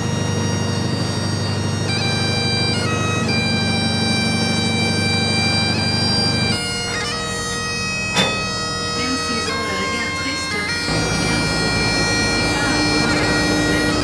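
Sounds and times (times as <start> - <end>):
bagpipe drone: 0.0 - 14.0
bagpipe melody: 0.0 - 14.0.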